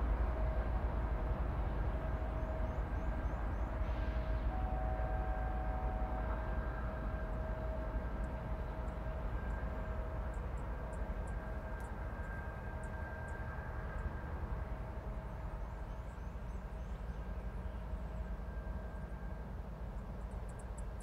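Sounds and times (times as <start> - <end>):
faint steady whining tones: 0.0 - 21.0
freight train rumbling: 0.0 - 21.0.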